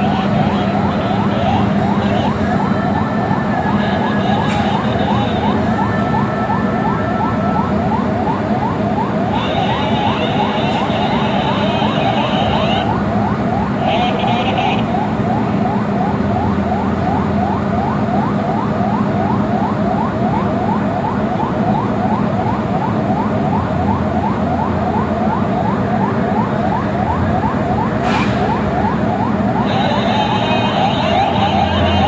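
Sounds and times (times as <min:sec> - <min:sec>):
siren wailing: 0:00.0 - 0:32.0.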